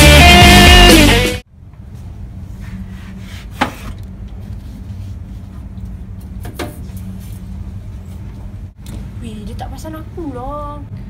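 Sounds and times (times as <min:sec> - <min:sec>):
low room hum: 0:01.4 - 0:11.0.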